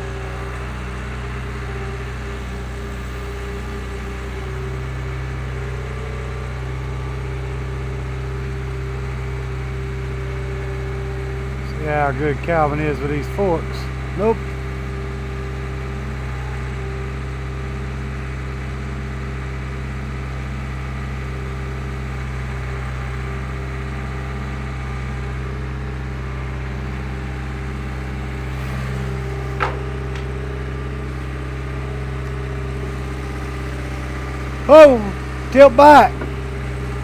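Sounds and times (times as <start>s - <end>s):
skid steer engine running: 0.0s - 37.0s.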